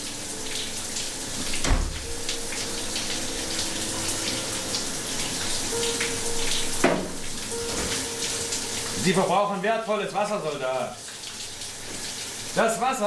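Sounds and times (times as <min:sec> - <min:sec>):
shower spraying water: 0:00.0 - 0:13.0.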